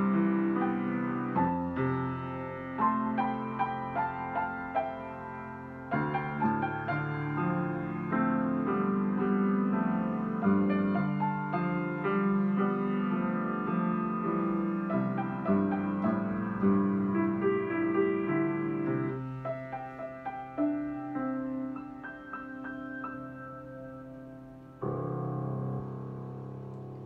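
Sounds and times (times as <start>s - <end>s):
grand piano: 0.0s - 27.0s.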